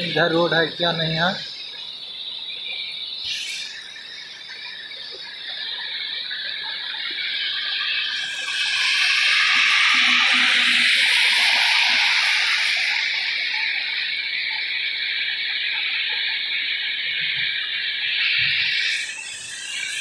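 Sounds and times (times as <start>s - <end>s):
heavy rain hissing: 0.0s - 2.0s, 2.6s - 20.0s.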